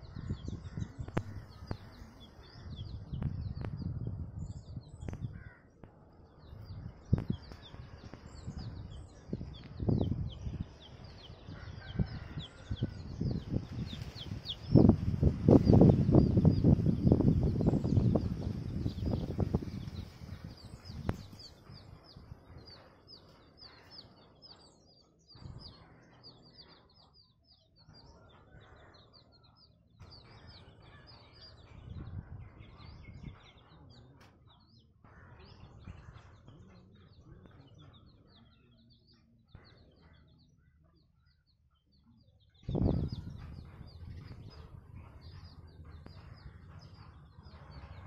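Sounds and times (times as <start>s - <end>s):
baby chicks peeping: 0.0s - 48.0s.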